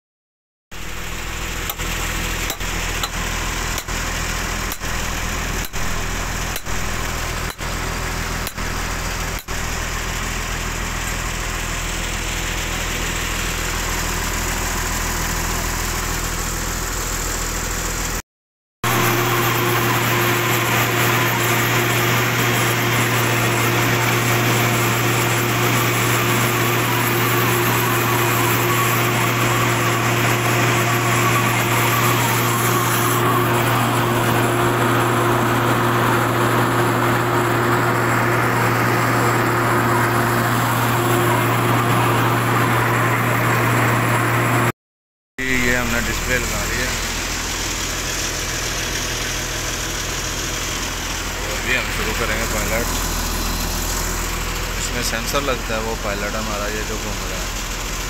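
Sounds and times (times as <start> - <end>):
drilling rig diesel engine running: 0.7 - 18.2, 18.8 - 44.7, 45.4 - 58.0.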